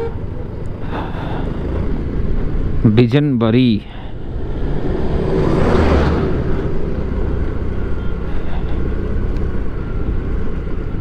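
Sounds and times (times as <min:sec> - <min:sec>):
scooter engine hum: 0:00.0 - 0:03.0, 0:03.9 - 0:11.0
truck passing: 0:00.0 - 0:11.0.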